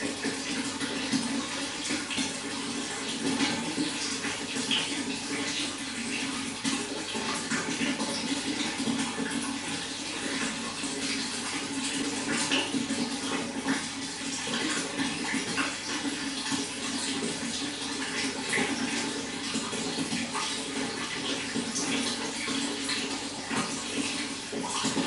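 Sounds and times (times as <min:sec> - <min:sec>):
running water flowing: 0:00.0 - 0:25.0.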